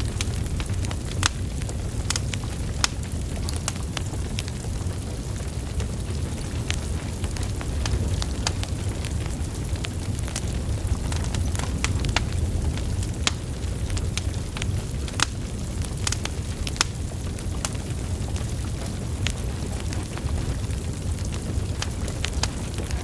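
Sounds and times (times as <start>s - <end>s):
burning logs crackling: 0.0s - 23.0s
low rumble of flame: 0.0s - 23.0s
sharp pops of fire: 0.0s - 23.0s.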